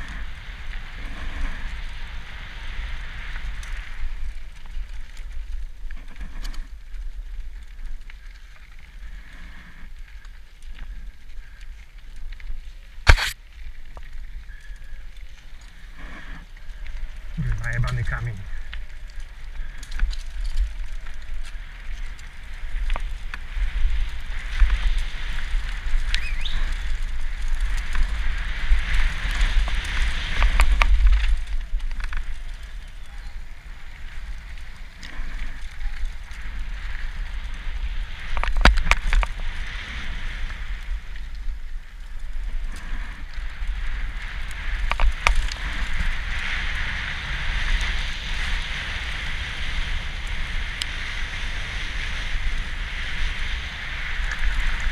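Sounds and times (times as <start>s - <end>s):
wind noise on microphone: 0.0s - 8.2s, 15.7s - 54.9s.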